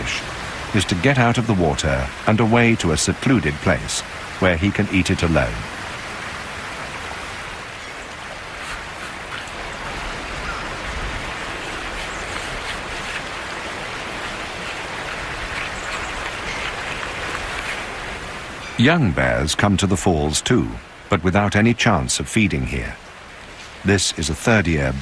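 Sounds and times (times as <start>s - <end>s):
water rushing at falls: 0.0s - 25.0s.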